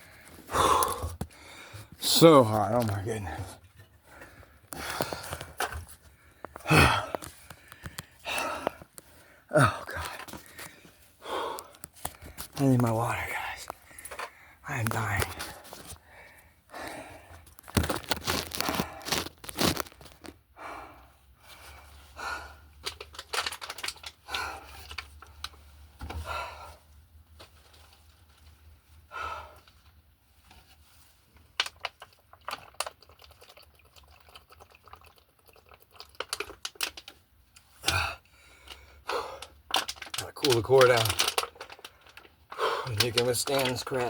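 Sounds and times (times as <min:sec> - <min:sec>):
crinkling and crunching rustles: 0:00.0 - 0:20.4, 0:22.8 - 0:26.2, 0:27.2 - 0:29.0, 0:29.6 - 0:37.9, 0:39.4 - 0:44.0.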